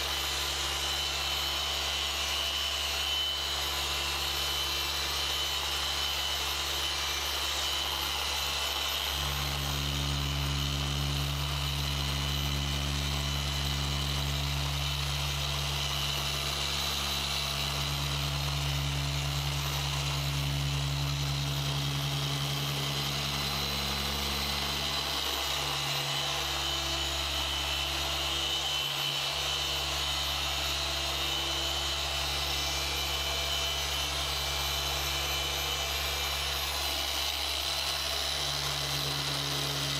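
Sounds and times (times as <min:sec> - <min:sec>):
polisher motor hum with whine: 0:00.0 - 0:39.9.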